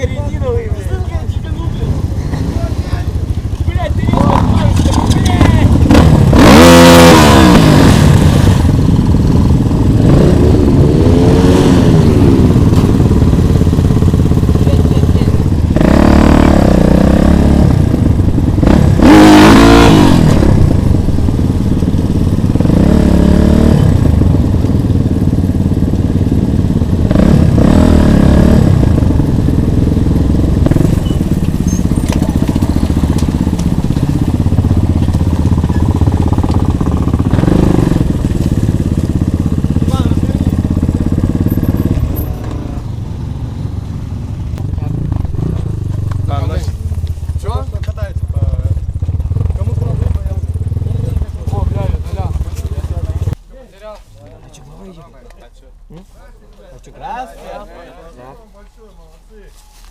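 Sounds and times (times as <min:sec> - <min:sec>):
motorcycle engine revving: 0:00.0 - 0:53.4.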